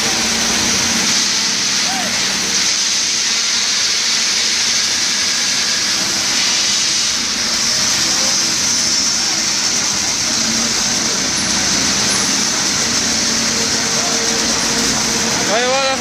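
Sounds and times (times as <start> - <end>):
concrete pump running with hiss: 0.0 - 16.0.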